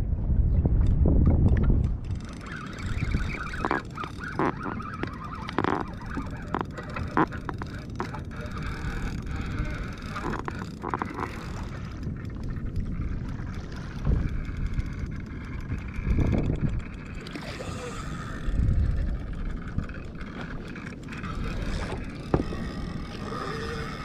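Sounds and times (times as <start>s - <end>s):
wind buffeting microphone: 0.0s - 24.0s
water moving around kayak: 0.8s - 24.0s.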